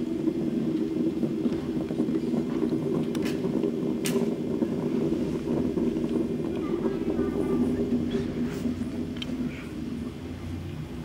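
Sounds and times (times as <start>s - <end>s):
steady low drone: 0.0s - 11.0s.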